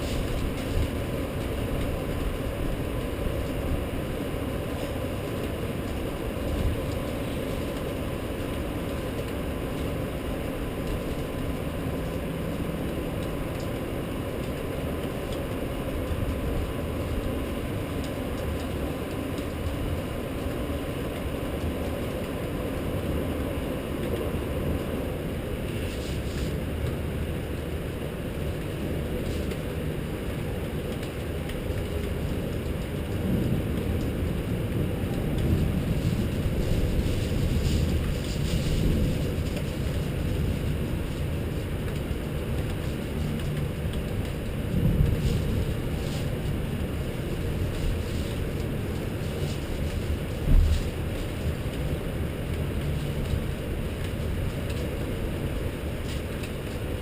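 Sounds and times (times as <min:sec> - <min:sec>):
rain storm rumbling: 0:00.0 - 0:57.0.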